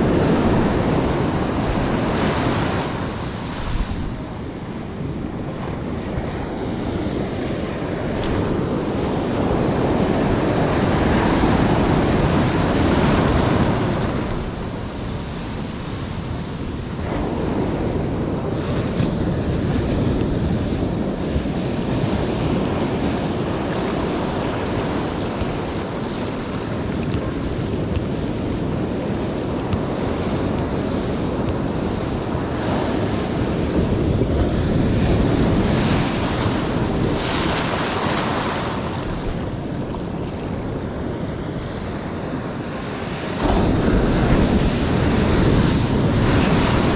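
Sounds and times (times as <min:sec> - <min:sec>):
ocean surf washing in: 0:00.0 - 0:46.9
wind buffeting microphone: 0:00.0 - 0:46.9.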